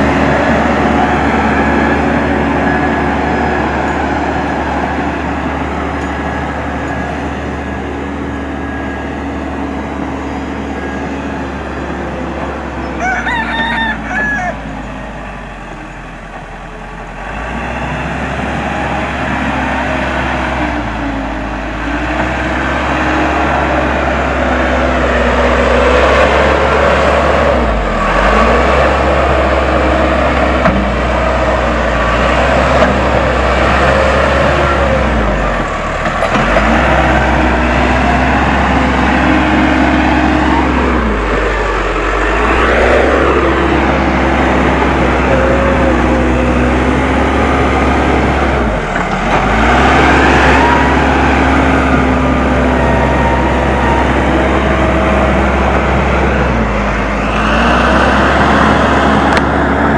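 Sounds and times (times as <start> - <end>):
diesel engine working under load: 0.0 - 59.9.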